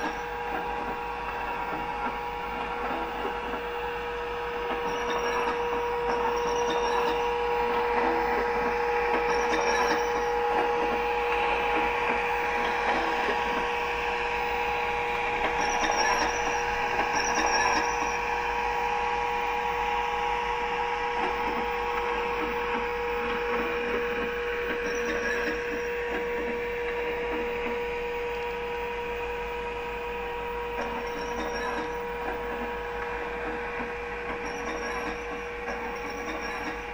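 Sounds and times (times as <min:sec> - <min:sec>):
high squeaks: 0:00.0 - 0:36.9
model locomotive humming and whirring: 0:00.0 - 0:36.9.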